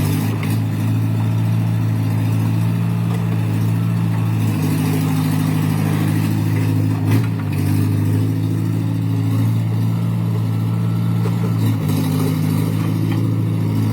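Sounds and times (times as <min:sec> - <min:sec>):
diesel engine running: 0:00.0 - 0:13.9.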